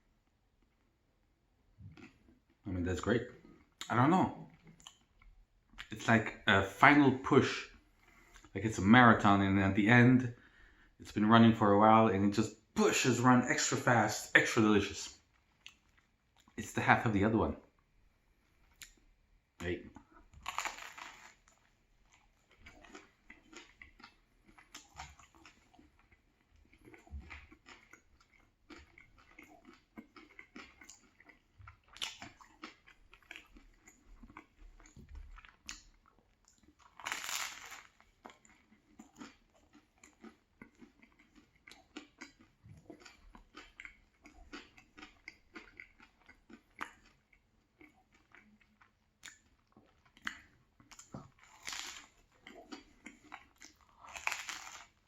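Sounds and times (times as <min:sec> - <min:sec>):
chewing and crunching bread: 0:00.0 - 0:08.6, 0:12.4 - 0:55.0.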